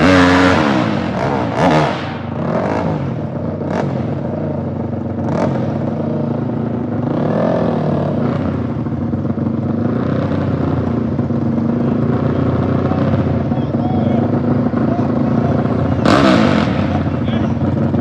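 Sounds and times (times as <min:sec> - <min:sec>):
dirt bike engines idling: 0:00.0 - 0:18.0.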